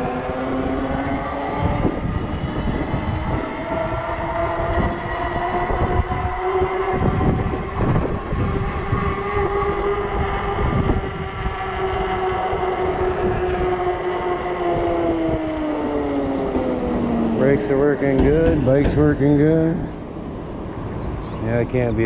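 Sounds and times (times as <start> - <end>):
electric bike motor whine: 0.0 - 17.8
wind buffeting microphone: 0.0 - 22.0.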